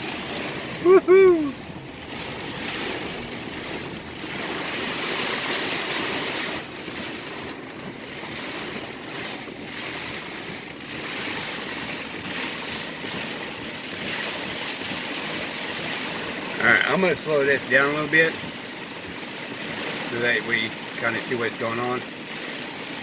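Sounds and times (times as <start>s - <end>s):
heavy rain on a car roof: 0.0s - 23.0s.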